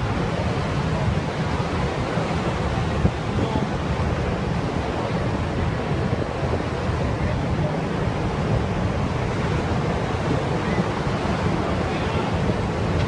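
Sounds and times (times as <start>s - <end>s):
churning seawater rushing: 0.0s - 13.0s
wind on microphone: 0.0s - 13.0s.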